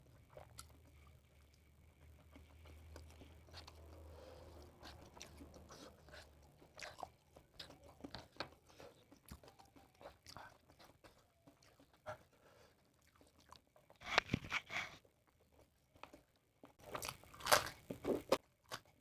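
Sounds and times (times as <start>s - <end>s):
person chewing crunchy food: 0.2s - 19.0s.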